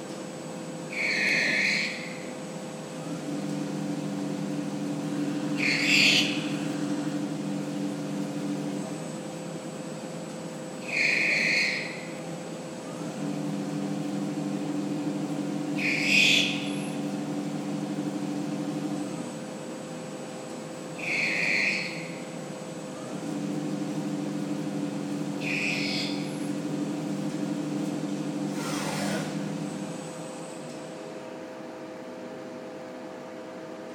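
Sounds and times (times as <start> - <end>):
machine tool humming: 0.0 - 32.4
machine winding down whine: 0.9 - 20.1, 20.9 - 30.9.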